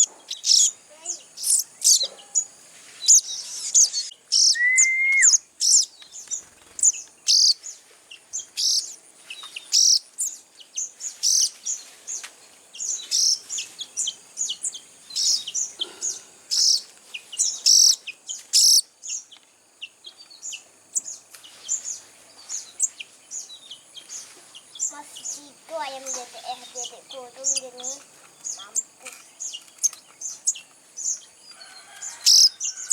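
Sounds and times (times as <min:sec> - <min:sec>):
young birds begging chirps: 0:00.0 - 0:32.9.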